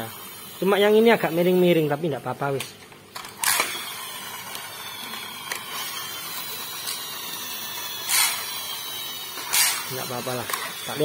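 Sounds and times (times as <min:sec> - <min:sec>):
toy friction motor whirring: 0:00.0 - 0:01.9, 0:03.2 - 0:11.0.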